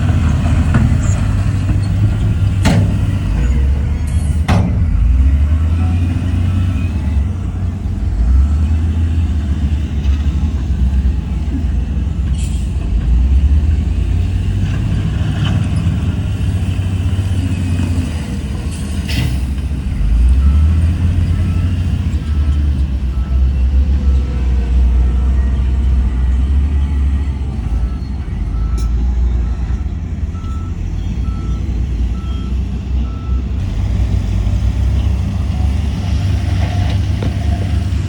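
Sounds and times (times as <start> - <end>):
diesel machinery rumbling: 0.0 - 38.0
truck reversing beeper: 0.0 - 38.0.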